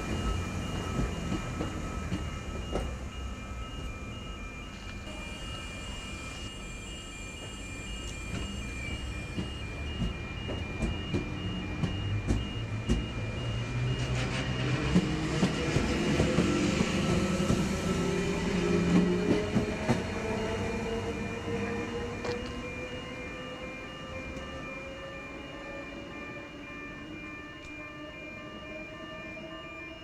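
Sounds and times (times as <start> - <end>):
train cars rumbling: 0.0 - 25.0
train motor whine rising: 0.0 - 29.9.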